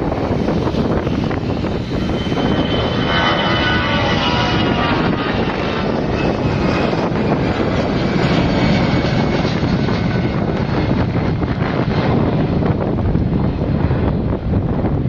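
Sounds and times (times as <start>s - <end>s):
faint engine whine: 0.0s - 15.0s
jet engines at takeoff power: 0.0s - 15.0s.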